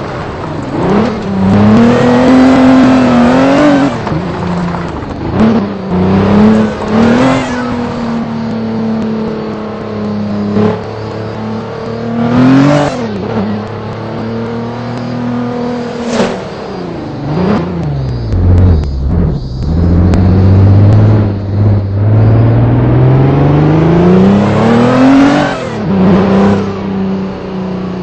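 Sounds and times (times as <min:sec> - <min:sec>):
vehicle engine revving: 0:00.2 - 0:04.4, 0:05.2 - 0:28.0.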